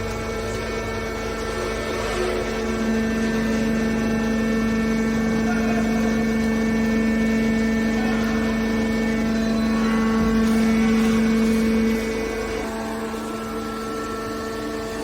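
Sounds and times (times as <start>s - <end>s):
hydraulic motor and pump hum: 0.0s - 15.0s.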